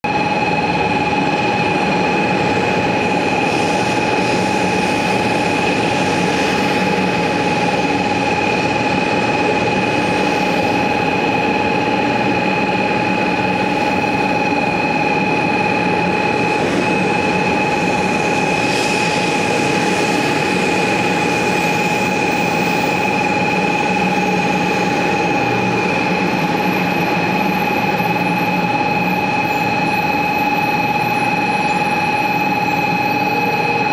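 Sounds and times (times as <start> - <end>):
high steady whine: 0.0 - 33.9
train running rumble: 0.1 - 30.0.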